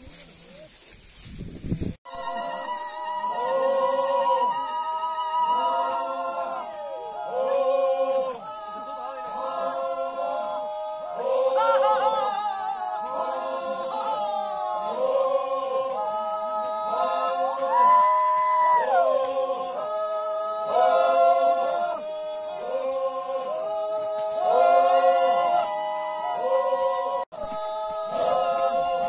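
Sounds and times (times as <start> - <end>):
group singing without instruments: 2.1 - 29.0.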